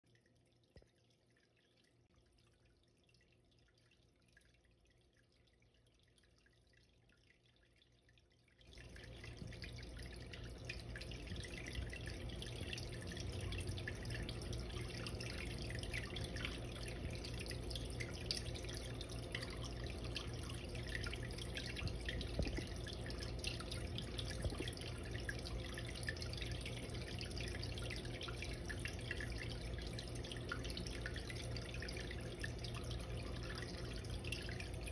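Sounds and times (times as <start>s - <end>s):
water dripping and trickling: 0.1s - 34.9s.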